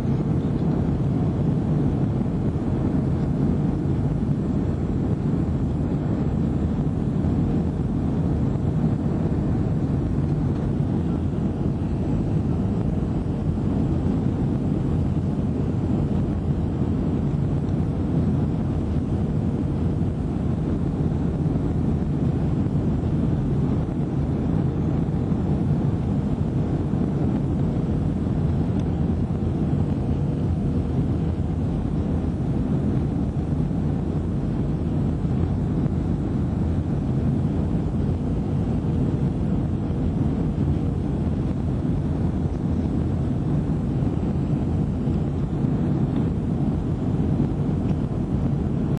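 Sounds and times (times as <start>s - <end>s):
faint steady hum: 0.0s - 49.0s
jet engines rumbling: 0.0s - 49.0s.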